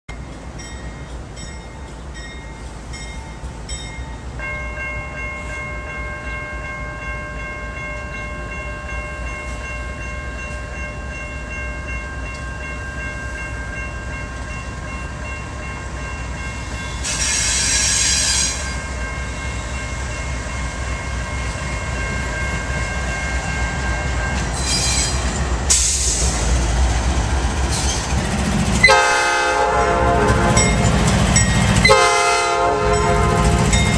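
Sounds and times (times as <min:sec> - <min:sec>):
diesel locomotive engine rumbling: 0:00.1 - 0:33.9.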